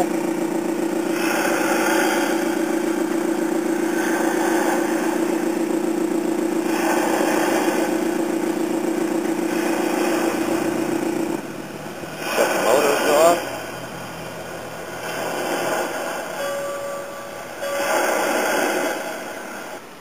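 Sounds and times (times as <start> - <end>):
simulated boat engine drone: 0.0 - 20.0.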